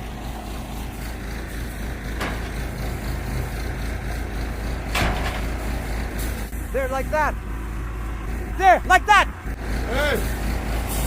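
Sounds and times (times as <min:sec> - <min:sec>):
backhoe diesel engine running: 0:00.0 - 0:11.0.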